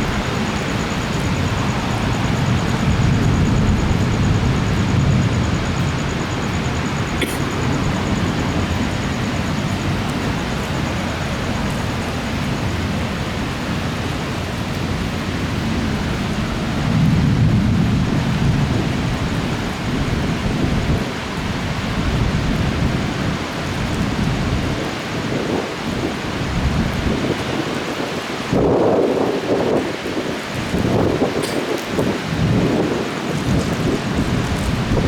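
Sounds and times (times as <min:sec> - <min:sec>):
thunder rumbling: 0:00.0 - 0:27.8, 0:28.5 - 0:35.0
heavy rain falling: 0:00.0 - 0:35.0.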